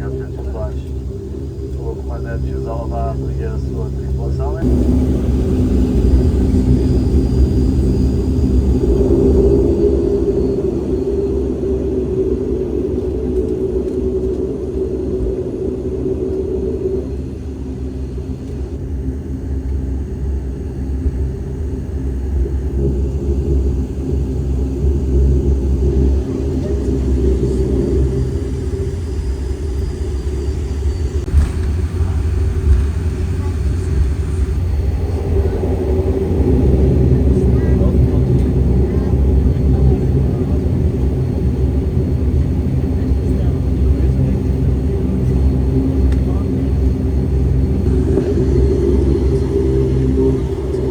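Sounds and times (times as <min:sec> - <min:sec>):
airplane engines droning in cabin: 0:00.0 - 0:50.9
humming propeller tone: 0:00.0 - 0:50.9.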